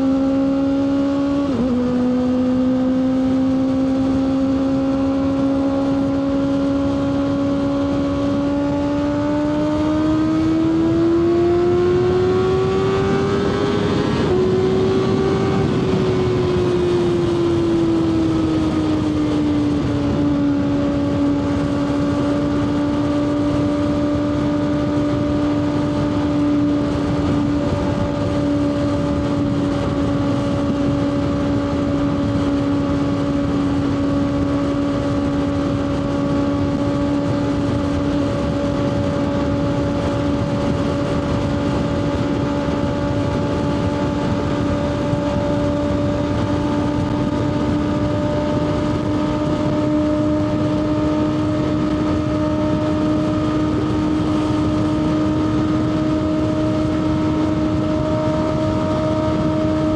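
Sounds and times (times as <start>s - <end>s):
motorcycle engine revving high: 0.0s - 59.9s
wind rush: 0.0s - 59.9s.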